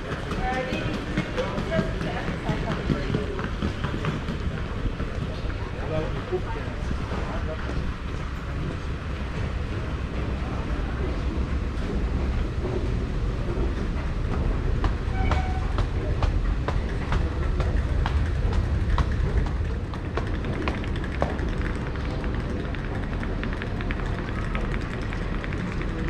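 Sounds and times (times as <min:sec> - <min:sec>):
wheels clicking over track: 0:00.0 - 0:06.2, 0:06.8 - 0:26.0
train rumbling on rails: 0:00.0 - 0:26.0.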